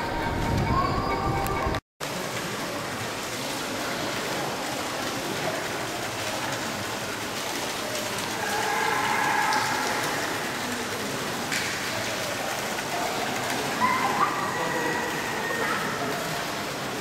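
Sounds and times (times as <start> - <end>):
hiss of falling water: 2.0 - 17.0.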